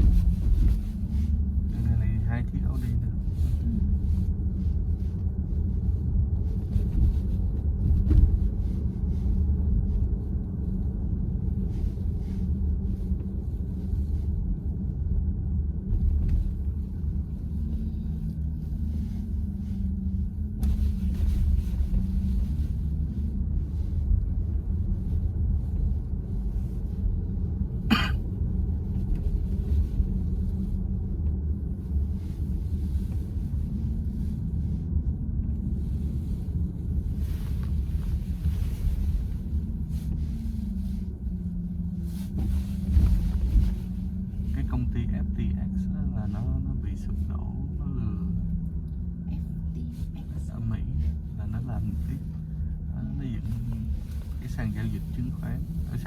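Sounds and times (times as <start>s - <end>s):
road and tyre rumble in car: 0.0s - 56.0s.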